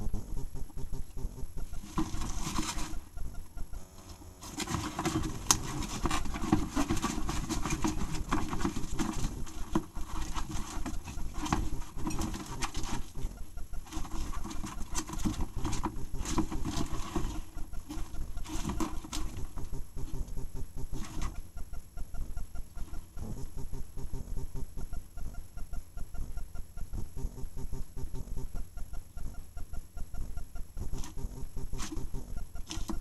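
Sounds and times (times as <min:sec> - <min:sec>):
hedgehog chewing noisily: 0:00.0 - 0:25.4, 0:30.0 - 0:33.0.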